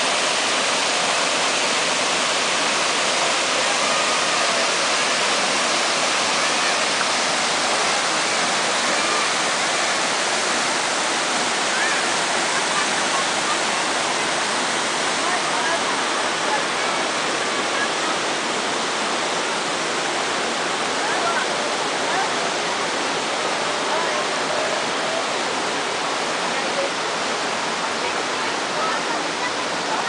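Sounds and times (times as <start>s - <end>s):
waterfall roaring: 0.0s - 30.0s.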